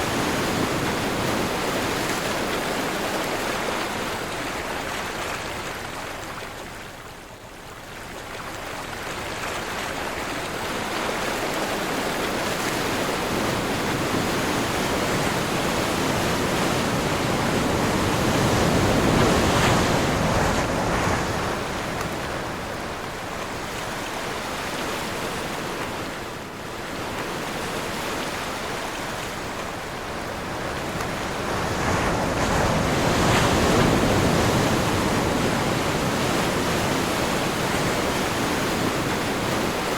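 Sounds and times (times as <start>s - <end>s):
sea surf breaking and washing: 0.0s - 6.6s, 8.6s - 39.9s
steady wind: 0.0s - 39.9s.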